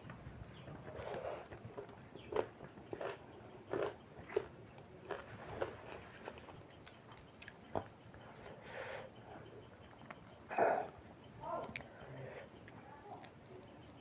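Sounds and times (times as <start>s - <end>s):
person chewing food: 0.8s - 14.0s.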